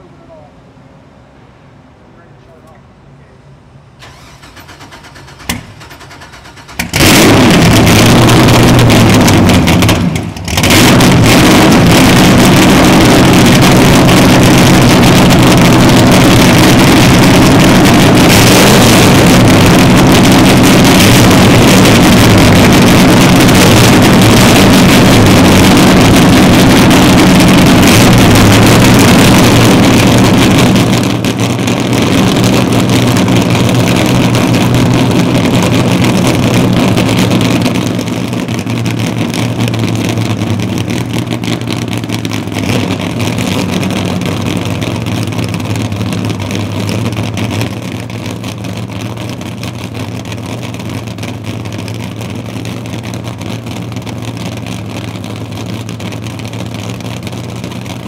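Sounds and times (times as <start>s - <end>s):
boat engines firing up and idling: 3.9s - 58.0s.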